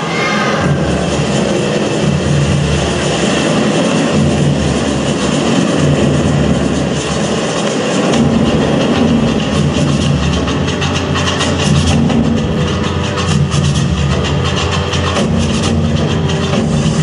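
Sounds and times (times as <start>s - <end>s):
rumbling dance music over speakers: 0.0s - 17.0s.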